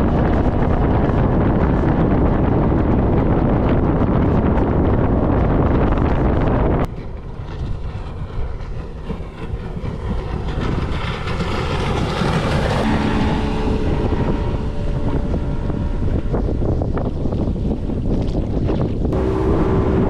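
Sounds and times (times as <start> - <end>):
outboard motor boat engine: 0.0 - 20.0
water rushing past hull: 0.0 - 20.0
wind buffeting microphone: 0.0 - 20.0.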